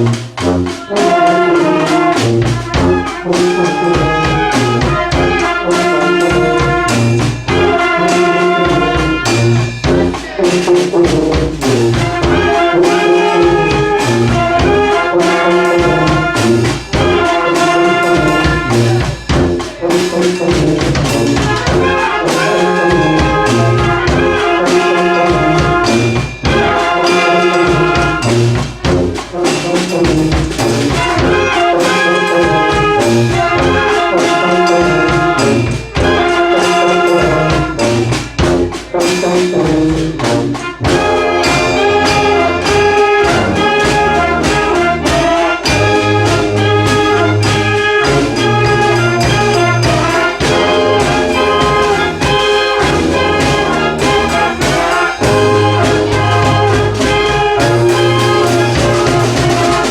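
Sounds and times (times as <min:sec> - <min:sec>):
brass band playing: 0:00.0 - 0:59.9
steady percussive beat: 0:00.0 - 0:59.9.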